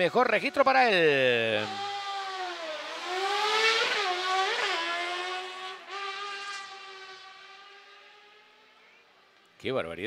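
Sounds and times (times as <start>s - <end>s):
racing buggy engine accelerating: 0.2s - 9.6s.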